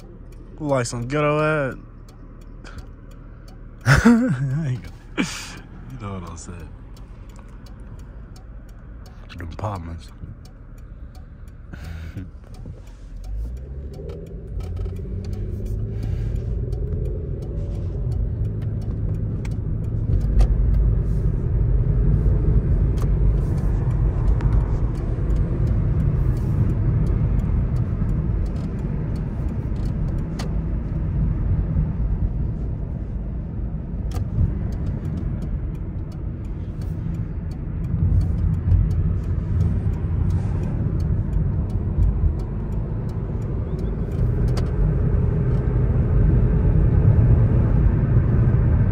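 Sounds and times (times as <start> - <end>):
car driving rumble: 0.0 - 48.9.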